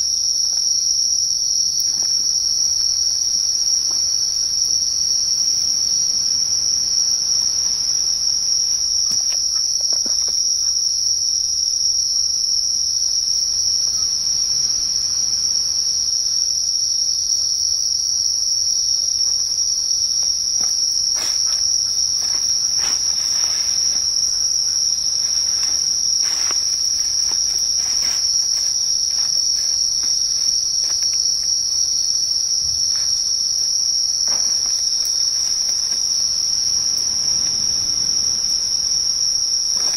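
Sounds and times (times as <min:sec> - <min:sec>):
insects shrilling: 0:00.0 - 0:39.9.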